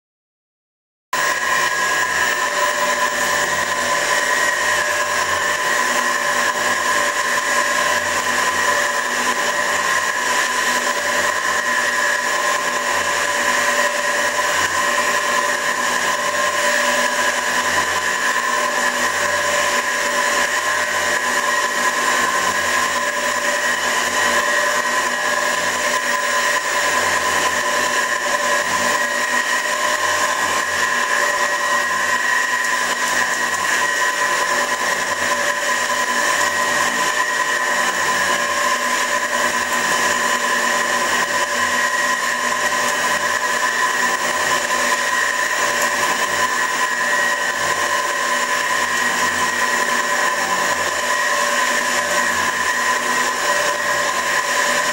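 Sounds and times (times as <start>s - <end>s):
metal shaper mechanical whine: 1.2s - 54.9s.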